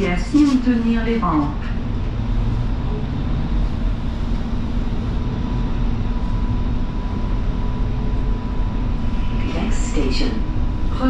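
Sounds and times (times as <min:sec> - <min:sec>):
high whine of train drive: 0:00.0 - 0:11.0
train rumbling: 0:00.0 - 0:11.0.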